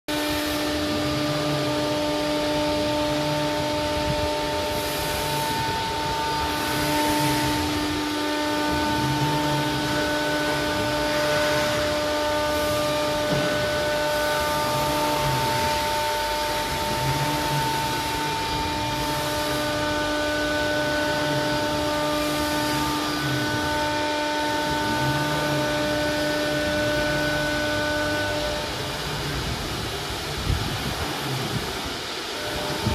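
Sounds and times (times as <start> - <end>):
router spindle whining: 0.1 - 32.9
drive motors humming: 0.2 - 32.9.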